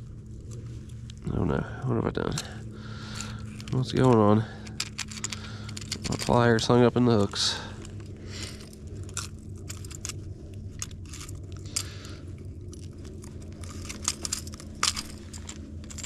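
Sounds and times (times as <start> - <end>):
metal pliers clicking on hooks: 2.2 - 12.1, 12.7 - 16.0.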